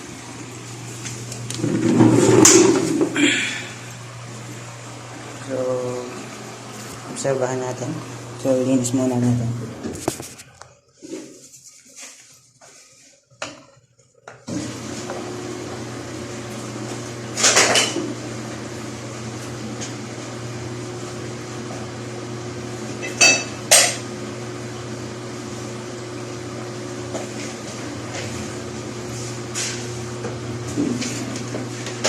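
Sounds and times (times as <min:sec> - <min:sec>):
washing machine humming: 0:00.0 - 0:11.2, 0:13.6 - 0:32.0.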